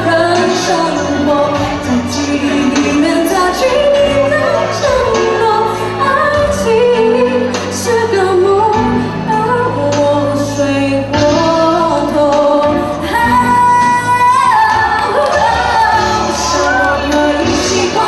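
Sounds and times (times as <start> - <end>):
live band playing: 0.0 - 18.0
woman singing lead: 0.0 - 18.0.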